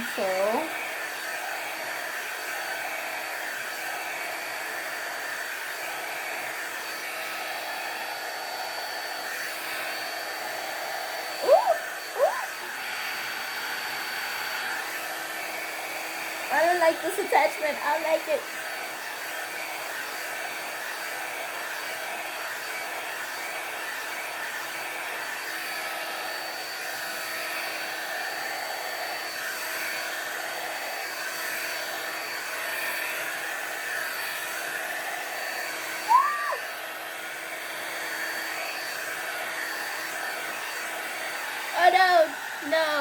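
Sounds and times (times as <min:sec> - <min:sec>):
hair dryer blowing: 0:00.0 - 0:43.0.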